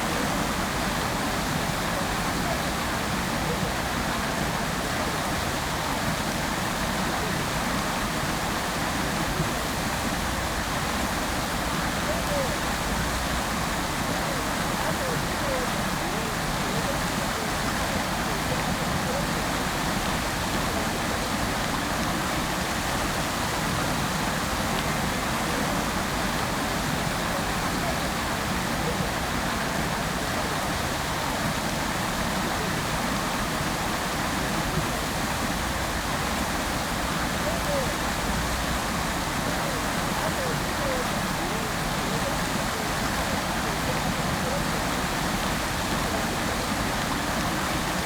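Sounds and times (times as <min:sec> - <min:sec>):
fountain water splashing: 0:00.0 - 0:48.0.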